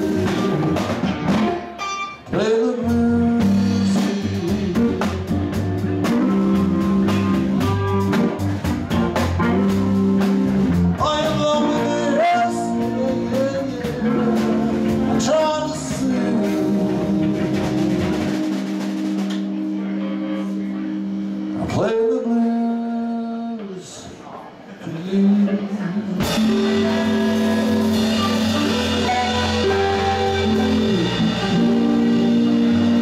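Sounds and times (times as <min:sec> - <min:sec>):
low bass line: 0:00.0 - 0:01.6, 0:02.3 - 0:21.9, 0:26.2 - 0:33.0
drum kit: 0:00.0 - 0:21.8, 0:26.0 - 0:33.0
electric guitar: 0:00.0 - 0:23.6, 0:25.5 - 0:33.0.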